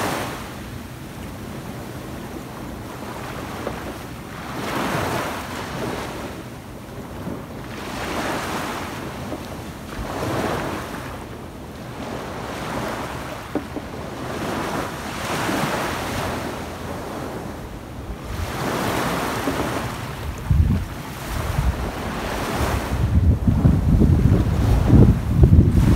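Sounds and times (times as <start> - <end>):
small waves breaking on beach: 0.0 - 25.9
wind buffeting microphone: 0.0 - 25.9.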